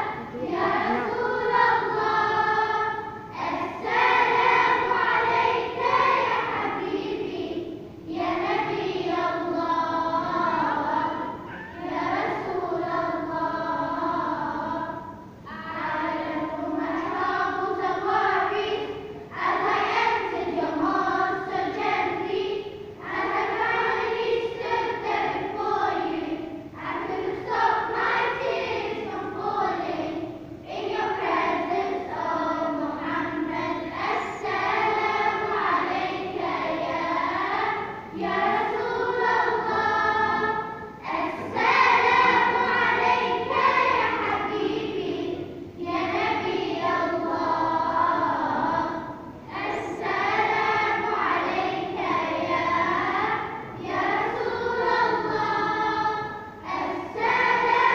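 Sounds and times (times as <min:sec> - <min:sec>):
group of voices singing: 0:00.0 - 0:57.9.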